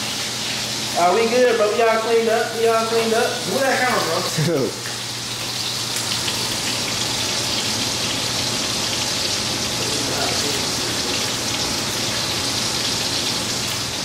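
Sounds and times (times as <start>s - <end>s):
bacon sizzling in a frying pan: 0.0s - 14.0s.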